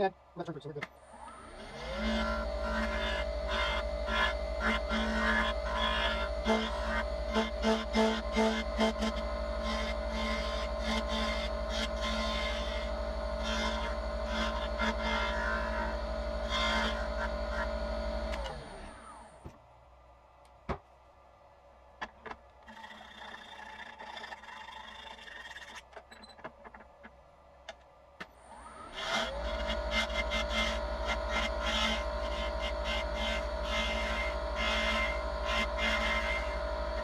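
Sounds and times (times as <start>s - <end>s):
wood lathe humming: 1.0s - 19.5s, 22.6s - 25.8s, 28.4s - 37.0s
turning tool cutting wood: 1.1s - 19.5s, 22.6s - 27.0s, 28.4s - 37.0s.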